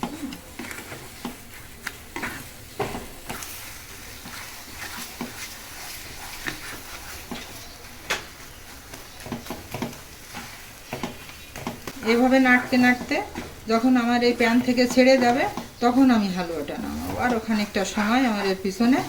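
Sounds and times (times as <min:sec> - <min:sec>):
soft sizzle: 0:00.0 - 0:19.0
spatula scraping a pan: 0:00.0 - 0:19.0.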